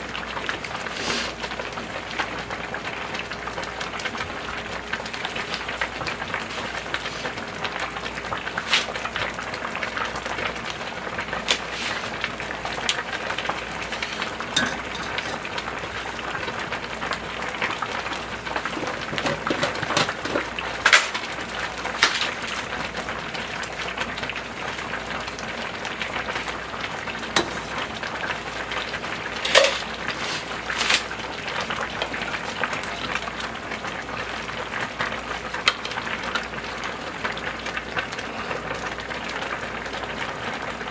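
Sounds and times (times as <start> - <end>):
stew boiling and bubbling: 0.0 - 40.9.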